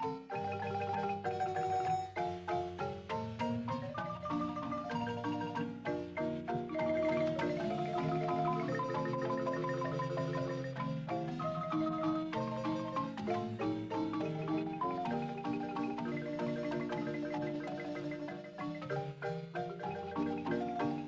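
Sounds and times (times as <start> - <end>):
marimba music: 0.0 - 21.0.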